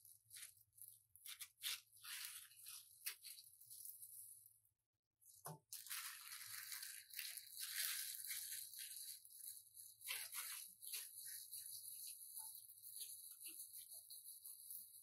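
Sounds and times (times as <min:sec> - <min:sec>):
plastic gloves crinkling: 0:00.0 - 0:04.7, 0:05.3 - 0:15.0
mixture squishing: 0:00.0 - 0:15.0.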